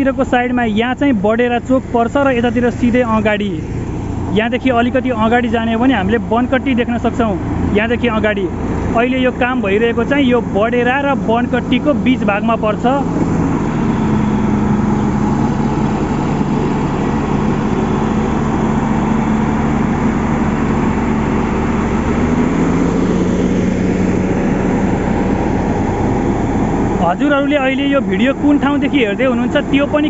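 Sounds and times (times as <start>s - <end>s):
motor grader engine: 0.0s - 30.0s
road roller compacting gravel: 0.0s - 30.0s.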